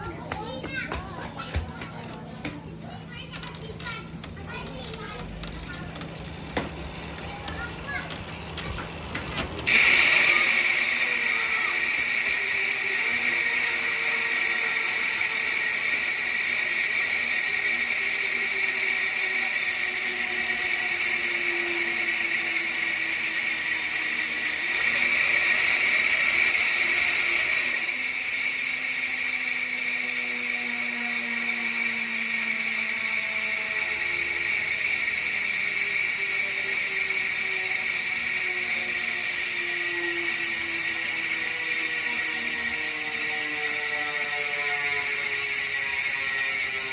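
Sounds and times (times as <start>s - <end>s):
bicycle hub ratchet buzzing: 0.3s - 46.9s.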